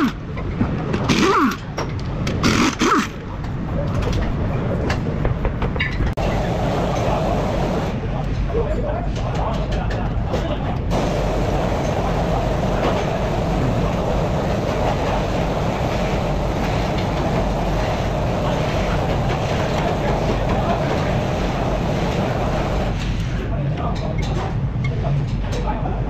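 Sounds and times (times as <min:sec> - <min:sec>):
loud mechanical running noise: 0:00.0 - 0:25.4.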